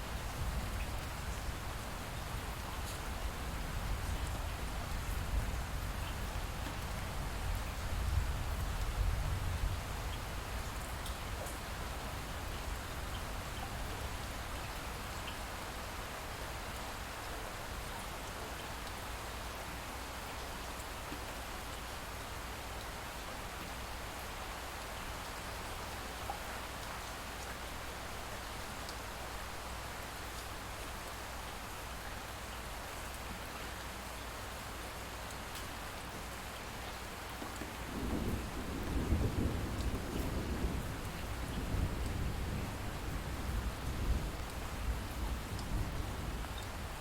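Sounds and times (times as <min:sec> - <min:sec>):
light rain falling: 0:00.0 - 0:47.0.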